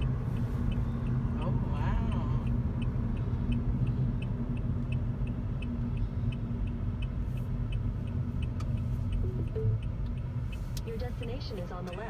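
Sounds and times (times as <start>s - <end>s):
car cabin road rumble: 0.0s - 12.0s
turn signal ticking: 0.0s - 12.0s.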